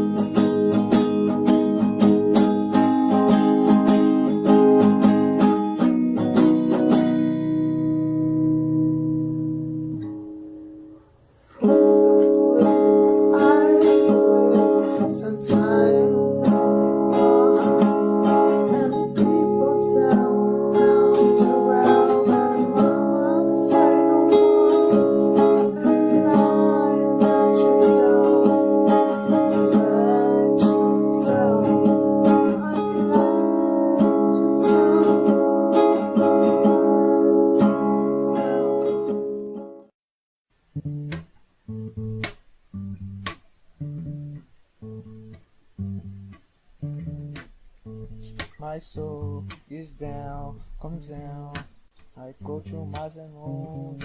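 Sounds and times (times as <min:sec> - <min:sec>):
strummed acoustic guitar: 0:00.0 - 0:39.9, 0:40.9 - 0:54.0.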